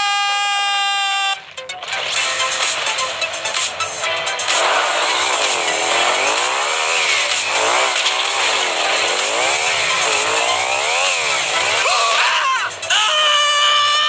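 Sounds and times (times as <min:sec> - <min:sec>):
buzzing motor rising and falling: 0:01.6 - 0:12.9.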